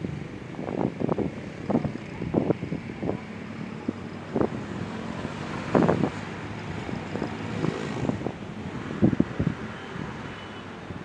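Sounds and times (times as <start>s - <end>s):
wind gusting on microphone: 0.0s - 11.0s.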